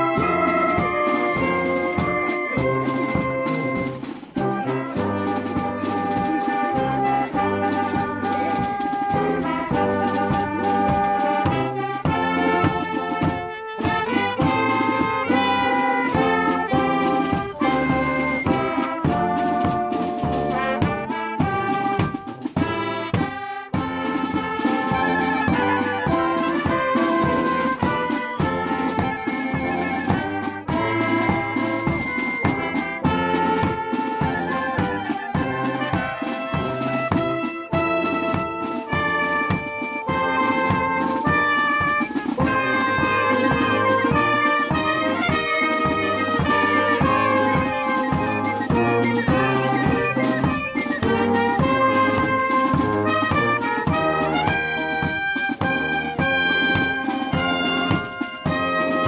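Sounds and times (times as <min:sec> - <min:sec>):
snare and bass drums: 0:00.0 - 0:59.0
wind band playing: 0:00.0 - 0:59.0.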